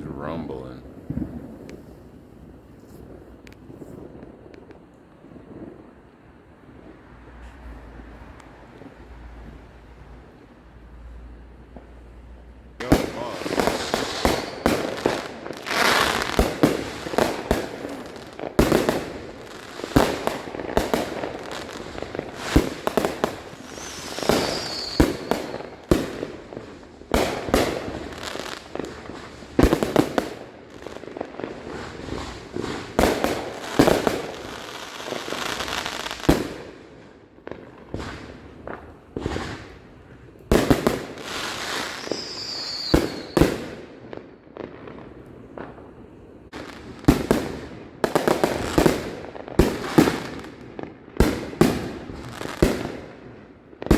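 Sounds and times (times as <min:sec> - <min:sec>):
fireworks bangs and booms: 0:00.0 - 0:53.9
fireworks crackling: 0:00.0 - 0:53.9.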